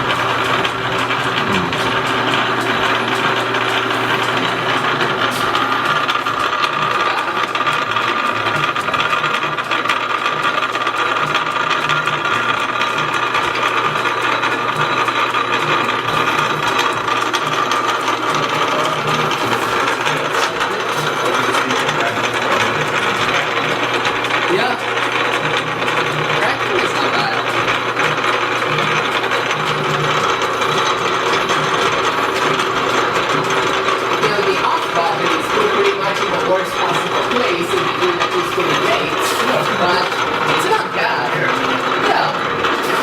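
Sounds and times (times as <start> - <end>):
metal lathes running: 0.0 - 43.0
steady mechanical whine: 0.0 - 43.0.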